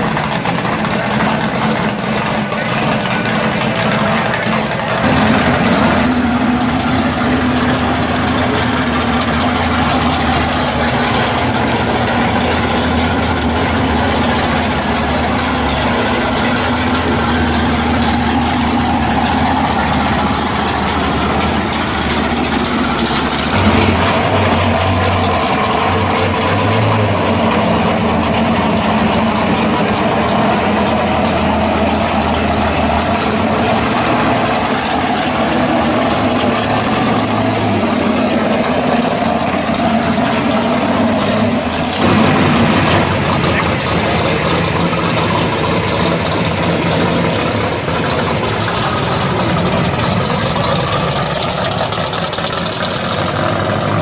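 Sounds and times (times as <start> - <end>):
car engines idling: 0.0 - 54.0.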